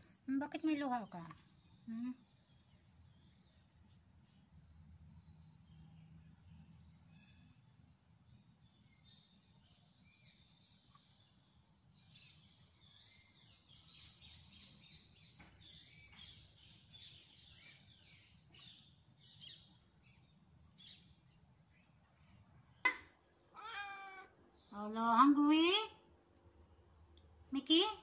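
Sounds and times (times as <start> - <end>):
low steady background hum: 0.0 - 28.0
small birds twittering: 0.6 - 25.8.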